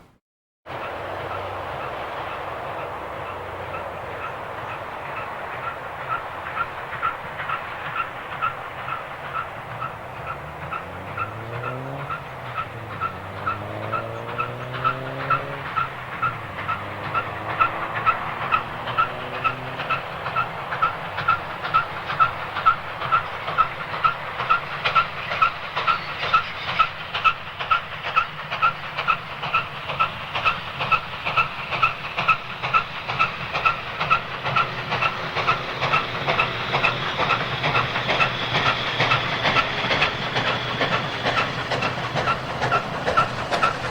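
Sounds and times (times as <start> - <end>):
steam locomotive exhaust beating: 0.0 - 43.9
steady steam hiss: 0.7 - 11.0, 15.6 - 43.9.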